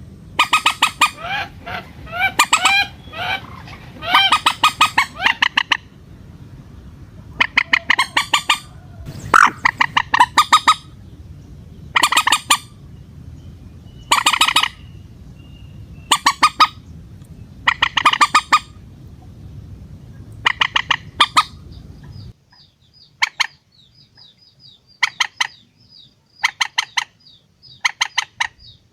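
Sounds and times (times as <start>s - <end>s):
low background hum: 0.0s - 28.9s
moorhen clucking calls: 0.3s - 6.0s, 7.1s - 11.2s, 11.9s - 12.8s, 14.0s - 15.0s, 15.9s - 16.9s, 17.6s - 19.4s, 20.2s - 28.9s.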